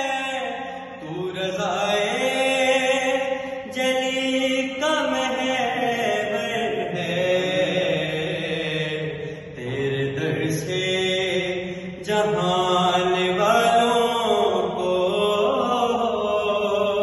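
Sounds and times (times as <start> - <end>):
man chanting devotional poem: 0.0 - 17.0.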